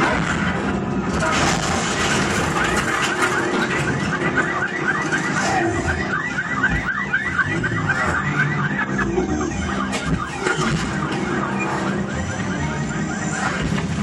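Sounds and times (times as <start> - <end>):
electronic alarm warbling: 0.0 - 14.0.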